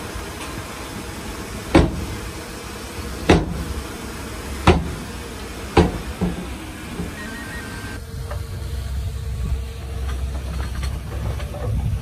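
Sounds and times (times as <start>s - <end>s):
earthmoving machinery rumbling: 0.0s - 12.0s.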